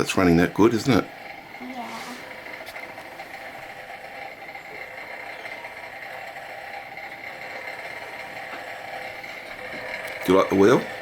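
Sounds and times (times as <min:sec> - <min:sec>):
engine mechanical whirr: 0:00.0 - 0:11.0.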